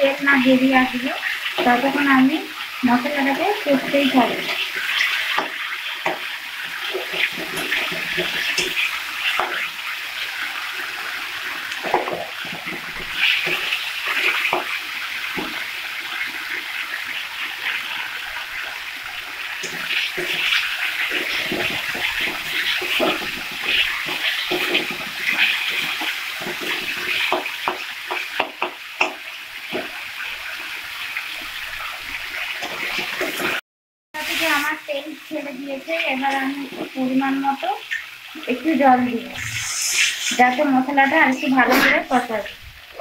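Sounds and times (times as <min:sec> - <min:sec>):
paste sizzling in hot oil: 0:00.0 - 0:33.6, 0:34.2 - 0:43.0.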